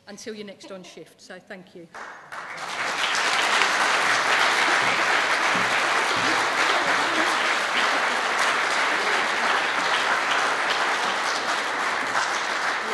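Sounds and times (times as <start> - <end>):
audience applauding: 2.0 - 12.9.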